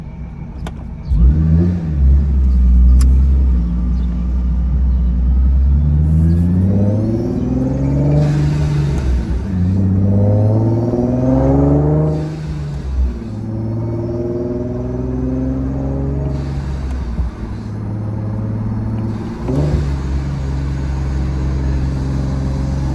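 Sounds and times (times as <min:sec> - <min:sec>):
supercharged car engine: 0:00.0 - 0:22.9.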